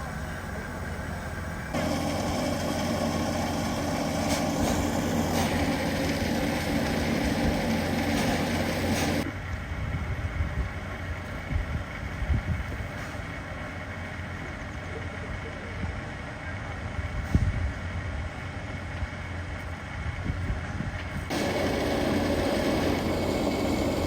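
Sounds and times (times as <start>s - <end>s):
train rushing mechanical noise: 0.0s - 24.0s.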